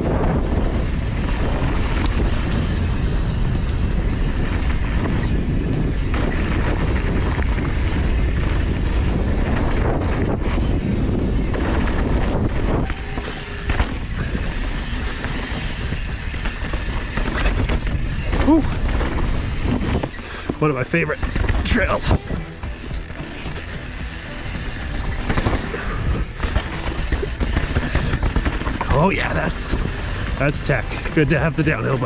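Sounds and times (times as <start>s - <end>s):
bike tyres rolling over dirt: 0.0s - 32.0s
wind rushing over microphone: 0.0s - 32.0s.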